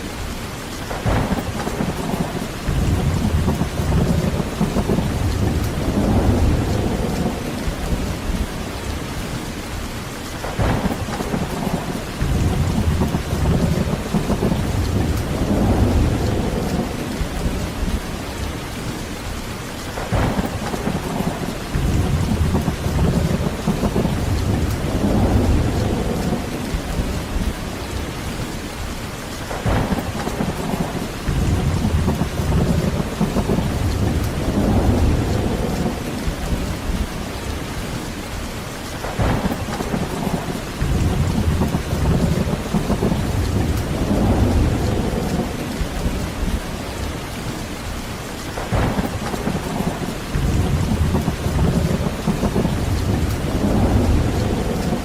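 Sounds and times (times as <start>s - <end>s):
heavy rain falling: 0.0s - 55.0s
thunder crack and rumble: 0.8s - 55.0s.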